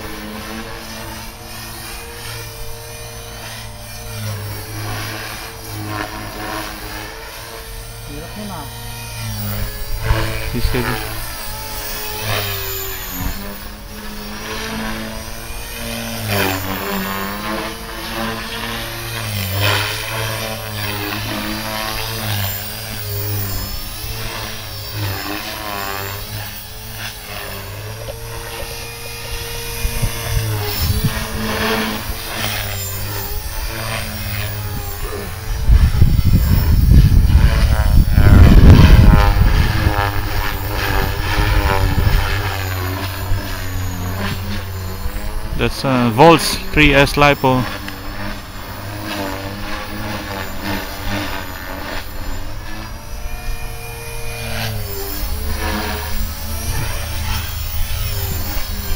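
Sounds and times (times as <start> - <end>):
rc helicopter motor whine: 0.0 - 58.9.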